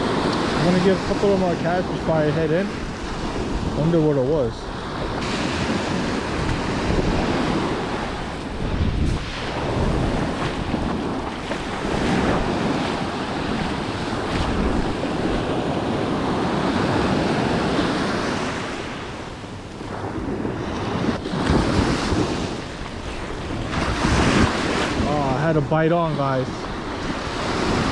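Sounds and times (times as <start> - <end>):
ocean waves washing up a beach: 0.0 - 27.9
wind buffeting the microphone: 0.0 - 27.9.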